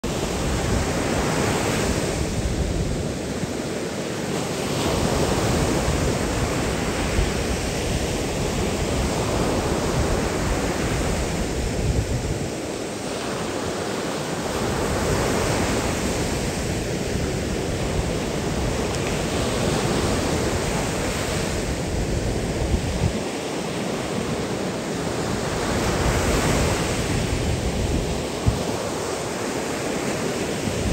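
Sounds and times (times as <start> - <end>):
surf waves washing up beach: 0.0 - 30.9.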